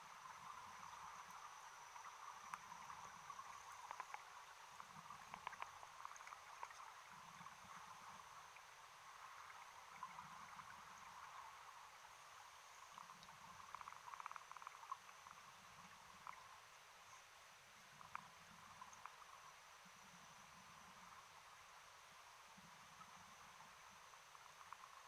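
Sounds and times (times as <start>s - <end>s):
underwater crackles and clicks: 0.1s - 17.3s, 17.9s - 21.6s, 22.5s - 25.0s.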